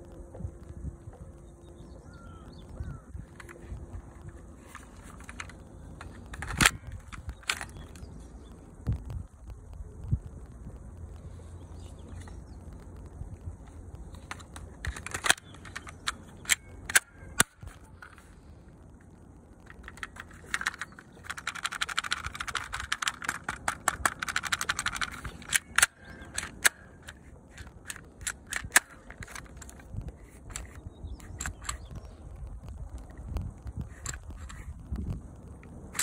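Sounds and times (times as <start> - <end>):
pistol metal and plastic clicks: 2.0 - 8.6, 11.8 - 18.4, 19.0 - 36.0
rapid clicking: 2.4 - 36.0.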